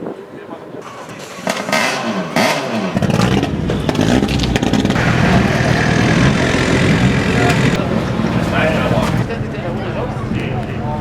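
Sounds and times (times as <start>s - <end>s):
rally car engine accelerating: 0.9s - 10.5s.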